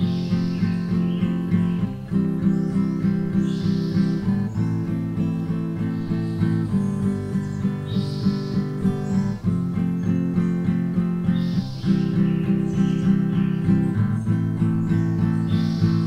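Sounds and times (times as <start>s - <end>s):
acoustic guitar picking chords: 0.0s - 16.0s.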